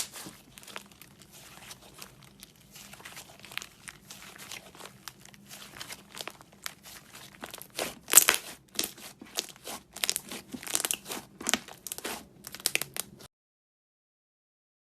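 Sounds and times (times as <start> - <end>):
slime squeezed crackling and popping: 0.0 - 13.3.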